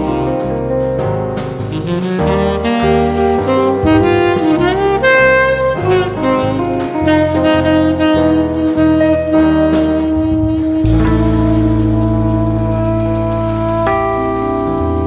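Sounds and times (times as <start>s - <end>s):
drums: 0.0s - 15.0s
saxophone lead: 0.0s - 15.0s
walking bass: 0.0s - 15.0s.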